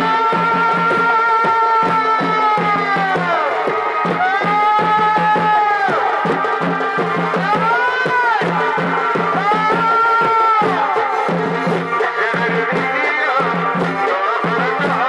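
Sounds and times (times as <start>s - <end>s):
folk drumming: 0.0s - 15.0s.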